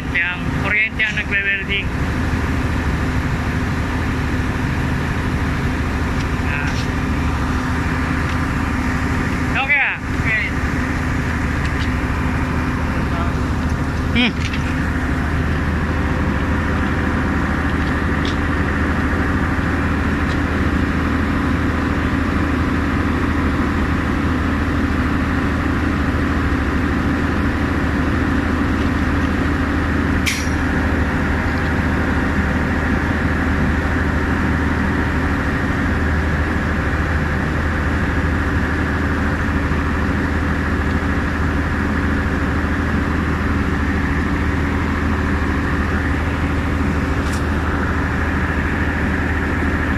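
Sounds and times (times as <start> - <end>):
welding machine engine drone: 0.0 - 49.9.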